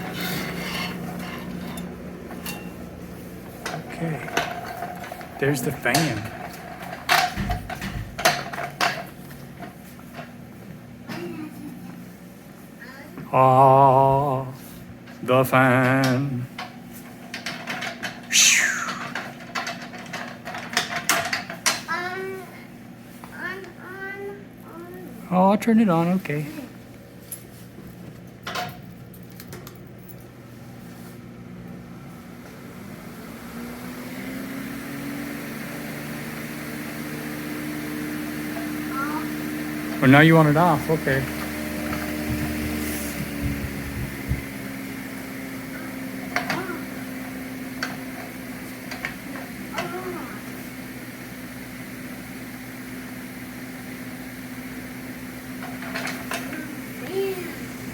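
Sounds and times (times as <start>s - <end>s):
electric fan motor hum: 0.0s - 57.9s.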